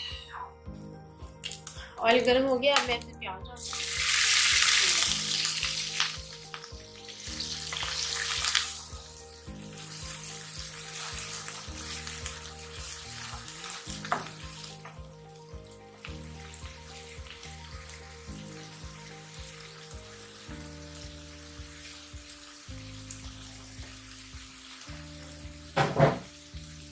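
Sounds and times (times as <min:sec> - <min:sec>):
background music: 0:00.0 - 0:26.9
onions sizzling in oil: 0:03.6 - 0:26.9.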